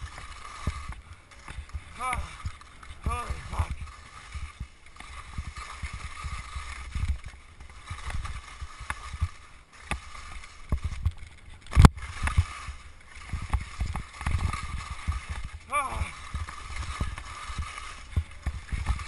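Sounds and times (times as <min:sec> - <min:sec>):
skis knocking on bumps: 0:00.0 - 0:19.0
skis scraping on icy snow: 0:00.0 - 0:19.0.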